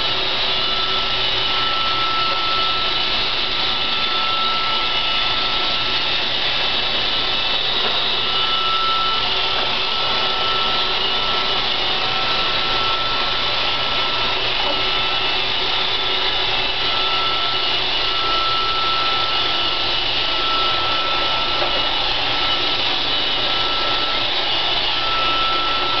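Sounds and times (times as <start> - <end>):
robot vacuum whirring: 0.0 - 26.0
thin whine: 0.0 - 26.0.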